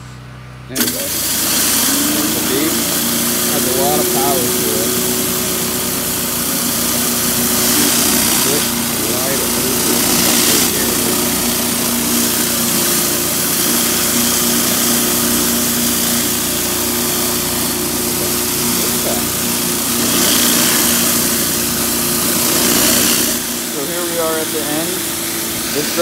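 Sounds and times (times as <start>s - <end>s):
pressure washer engine humming: 0.0s - 26.0s
high-pressure water hissing: 0.7s - 26.0s.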